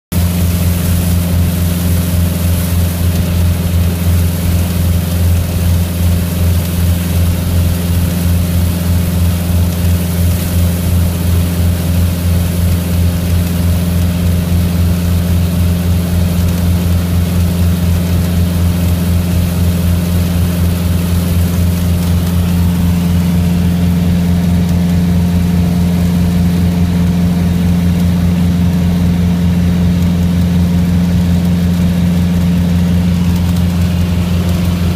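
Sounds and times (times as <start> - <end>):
aircraft engine and propeller drone: 0.1 - 34.9.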